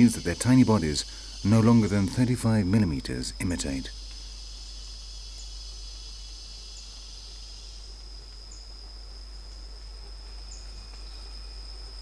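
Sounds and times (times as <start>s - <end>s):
faint high hiss: 0.0s - 12.0s
insects droning: 0.0s - 12.0s.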